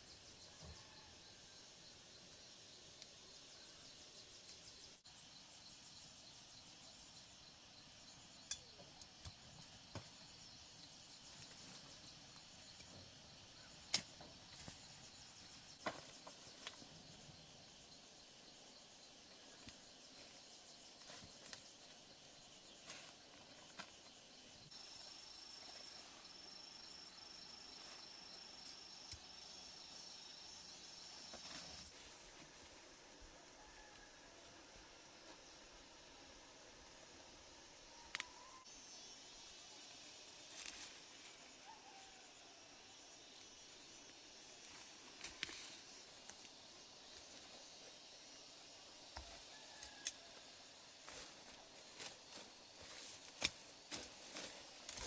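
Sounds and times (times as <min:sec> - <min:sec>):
high insect buzz: 0:00.0 - 0:55.0
pulsing insect chirp: 0:00.0 - 0:55.0.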